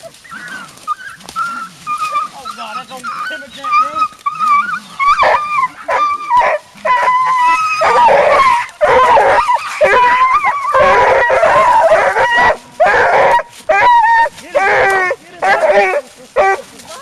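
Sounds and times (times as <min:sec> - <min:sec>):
hounds barking and bawling: 0:00.0 - 0:17.0.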